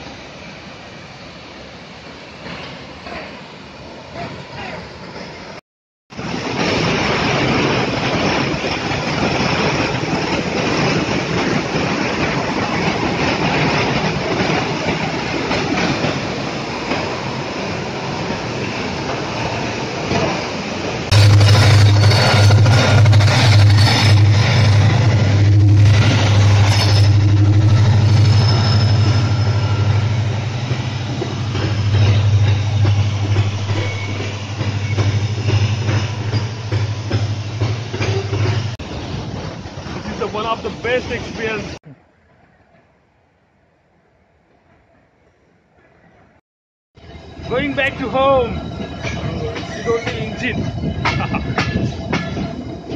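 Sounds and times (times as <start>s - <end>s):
train wheels running on rails: 0.0s - 41.8s, 47.0s - 52.9s.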